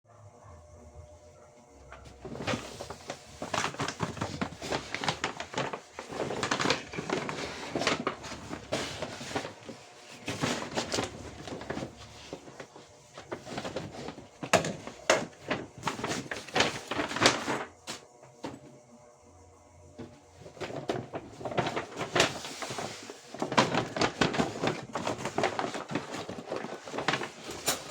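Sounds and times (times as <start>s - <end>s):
packaging rustling and crinkling: 1.8s - 18.6s, 20.0s - 27.9s.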